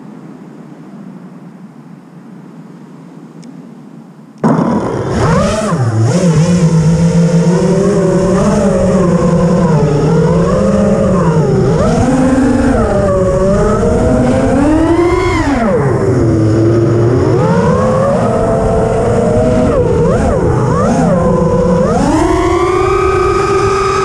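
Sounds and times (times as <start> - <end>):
drone motors whining: 4.4 - 24.0.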